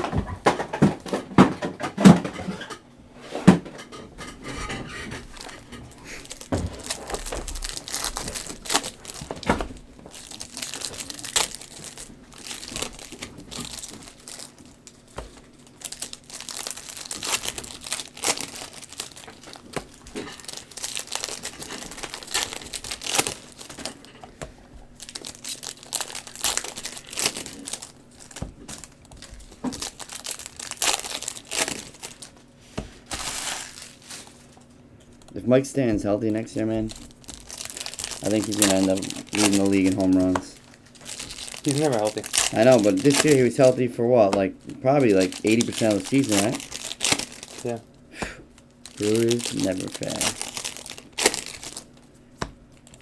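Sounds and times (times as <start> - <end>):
foil wrappers crinkling and tearing: 4.2 - 53.0.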